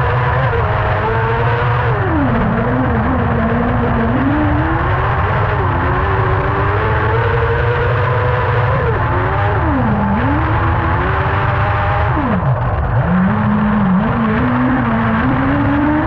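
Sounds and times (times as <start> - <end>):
buggy engine revving: 0.0 - 16.0
constant low rumble: 0.0 - 16.0.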